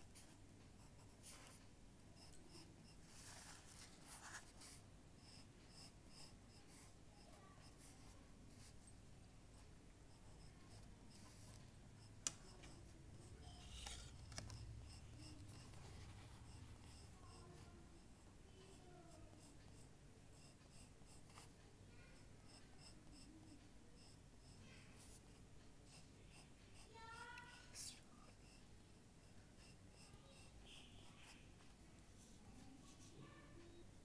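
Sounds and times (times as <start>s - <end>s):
drawing tool scratching on paper: 0.0s - 1.6s, 2.2s - 33.4s.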